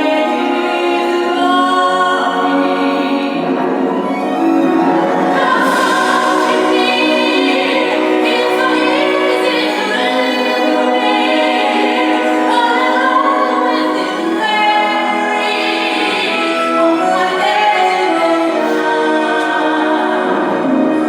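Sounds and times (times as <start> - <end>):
musical accompaniment: 0.0 - 21.0.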